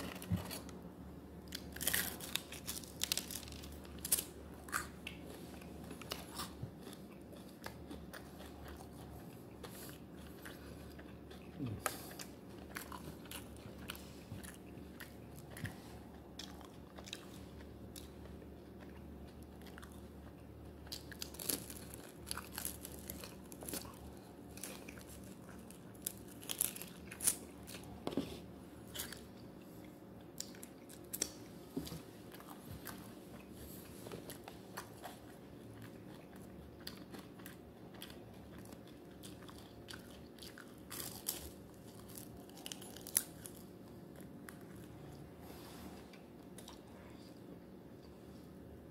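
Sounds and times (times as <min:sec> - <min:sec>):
chewing with crunches: 0:01.4 - 0:48.4.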